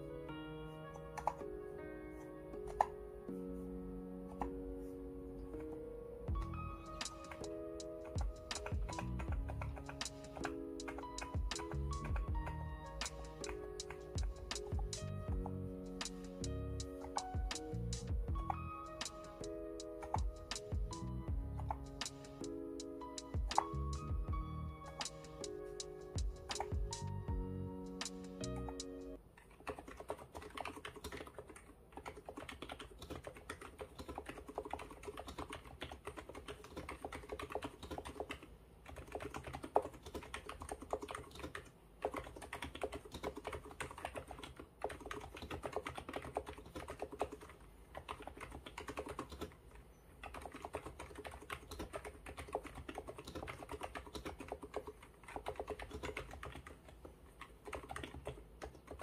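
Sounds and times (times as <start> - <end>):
fast keyboard typing: 0.0 - 3.0, 5.4 - 59.0.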